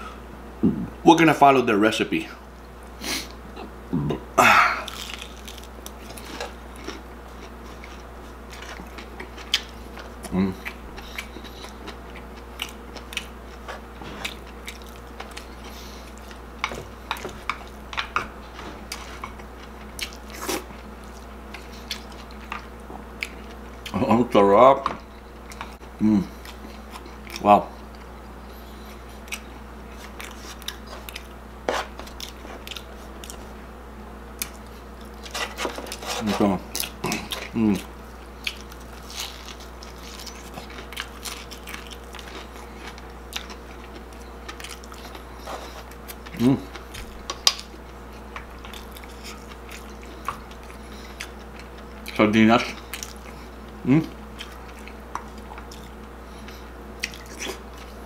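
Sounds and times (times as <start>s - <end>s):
close-up chewing with crunches: 4.8s - 24.1s, 25.0s - 33.6s, 34.3s - 58.0s.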